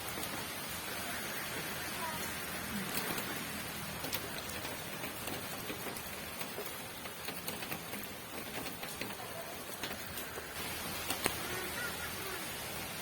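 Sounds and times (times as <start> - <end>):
raindrops ticking: 0.0 - 13.0
steady rain falling: 0.0 - 13.0.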